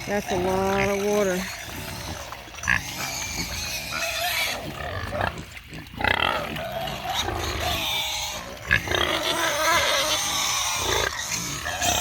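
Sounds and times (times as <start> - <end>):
pigs squealing and grunting: 0.0 - 12.0.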